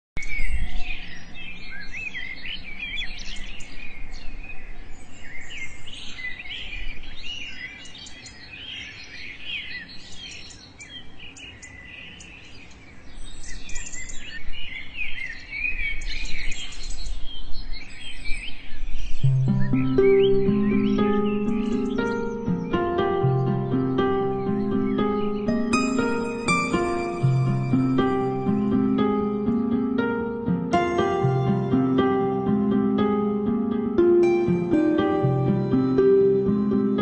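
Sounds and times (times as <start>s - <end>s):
small birds chirping: 0.2s - 37.0s.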